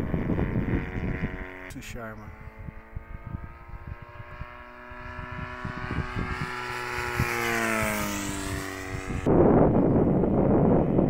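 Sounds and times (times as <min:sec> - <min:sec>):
model aircraft motor whine: 0:00.0 - 0:11.0
wind buffeting microphone: 0:00.0 - 0:11.0.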